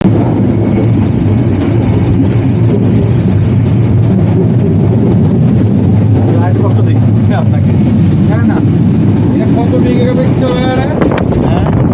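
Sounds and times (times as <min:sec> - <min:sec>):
train wheels rumbling: 0:00.0 - 0:11.9.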